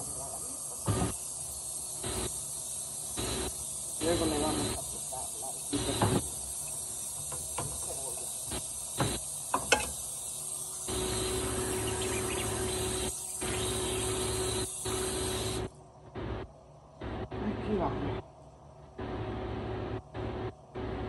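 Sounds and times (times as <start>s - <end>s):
steady hiss with low hum: 0.0s - 21.0s.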